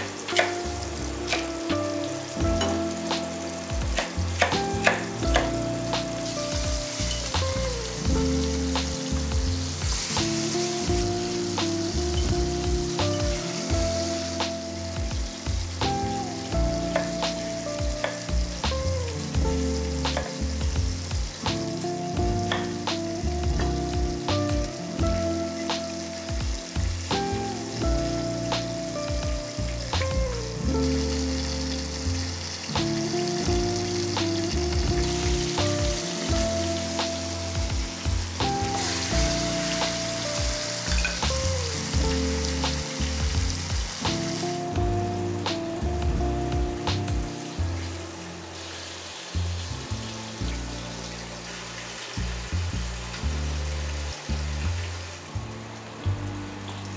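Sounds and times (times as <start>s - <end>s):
background music with soft beat: 0.0s - 56.9s
frying sizzle: 0.0s - 56.9s.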